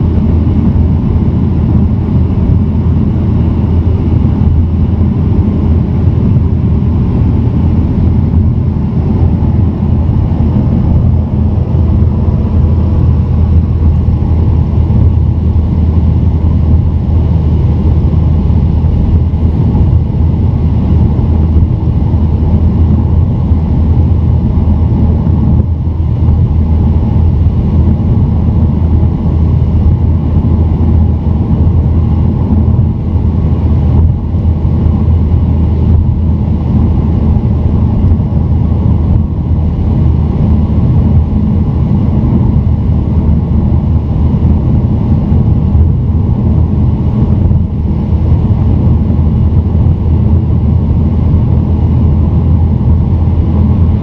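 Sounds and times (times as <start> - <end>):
car driving rumble inside cabin: 0.1 - 54.0.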